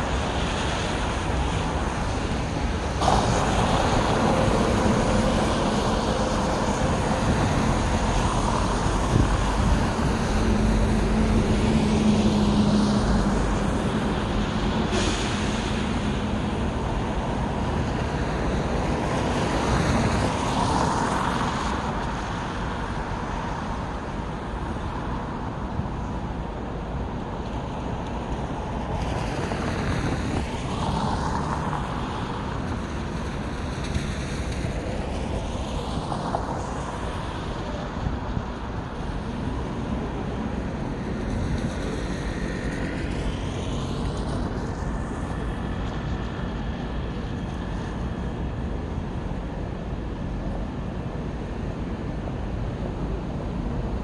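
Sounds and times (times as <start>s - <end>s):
road traffic: 0.0s - 54.0s
vehicles passing: 0.0s - 54.0s.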